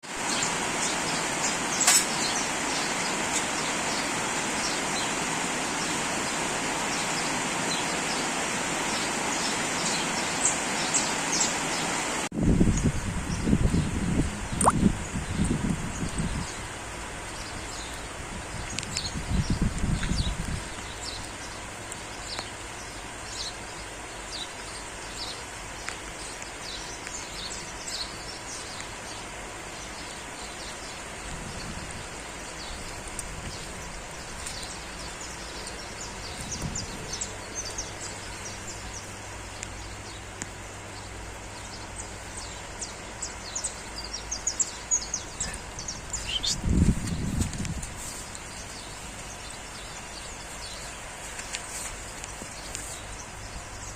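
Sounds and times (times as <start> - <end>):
light rain hissing: 0.0 - 53.9
small birds chirping: 0.0 - 53.9.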